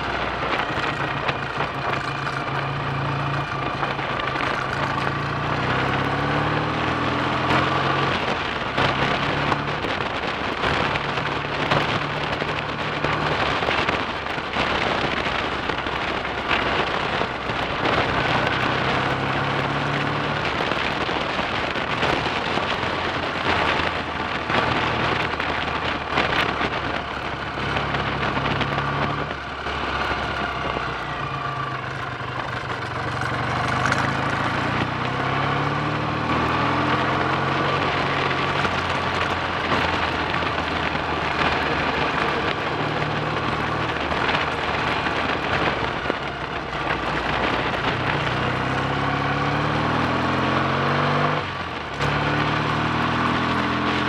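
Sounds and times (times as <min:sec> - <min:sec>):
motorcycle engine revving: 0:00.0 - 0:54.0
wind rush over microphone: 0:00.0 - 0:54.0.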